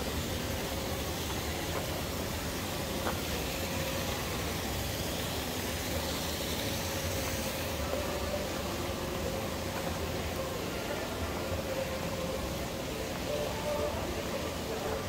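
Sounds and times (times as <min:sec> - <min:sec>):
fountain water rushing: 0:00.0 - 0:15.0.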